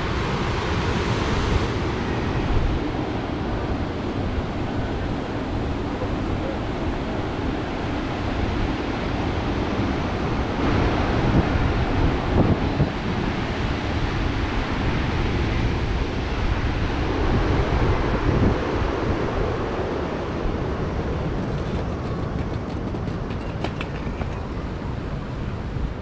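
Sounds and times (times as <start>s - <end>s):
wind buffeting microphone: 0.6s - 26.0s.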